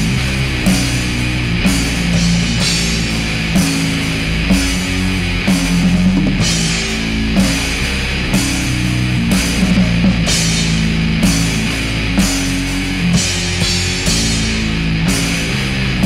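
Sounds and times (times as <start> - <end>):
distorted guitar and bass chords: 0.0 - 16.0
drums: 0.0 - 16.0.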